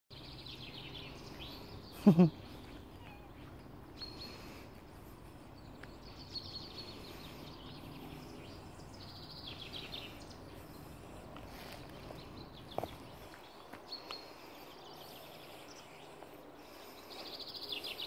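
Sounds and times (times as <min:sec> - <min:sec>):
outdoor background noise: 0:00.1 - 0:18.0
songbird chirps and trills: 0:00.1 - 0:18.0.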